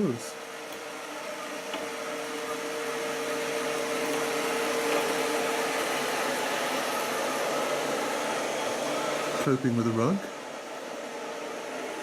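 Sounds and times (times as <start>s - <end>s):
robot vacuum cleaner whirring: 0.1s - 12.0s.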